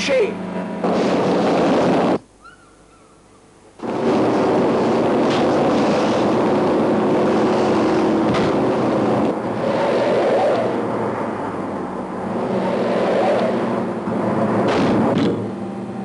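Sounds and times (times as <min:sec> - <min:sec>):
car engines running hard: 0:00.0 - 0:02.2, 0:03.5 - 0:16.0
road noise: 0:00.0 - 0:16.0.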